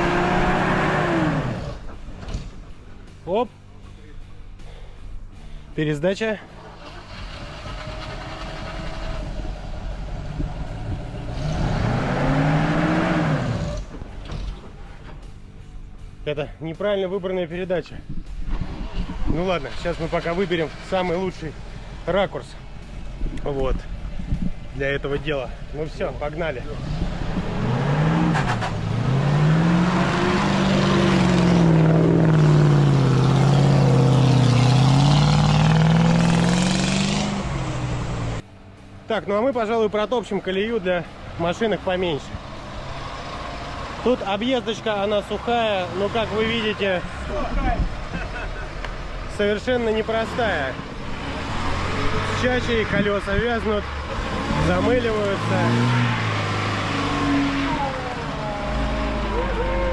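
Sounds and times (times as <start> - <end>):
truck engine labouring and revving: 0.0 - 16.4, 17.4 - 59.9.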